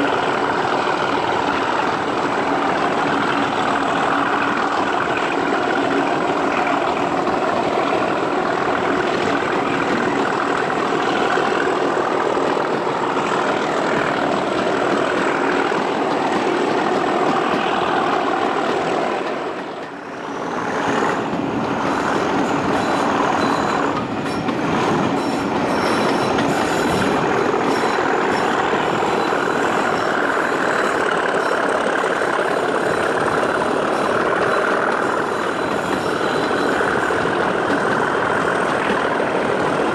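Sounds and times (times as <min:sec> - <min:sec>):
diesel locomotive engine running hard: 0:00.0 - 0:39.9
wheel and rail noise: 0:00.0 - 0:39.9.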